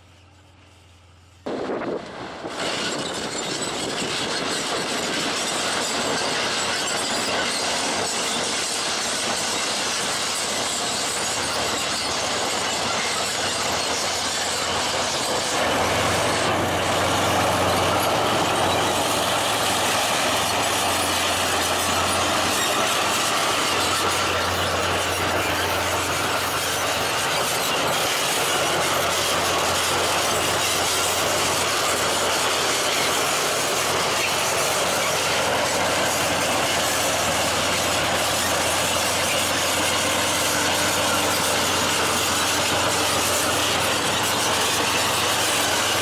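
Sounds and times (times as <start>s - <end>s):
diesel engine running: 0.0s - 46.0s
steel tracks clattering: 0.0s - 46.0s.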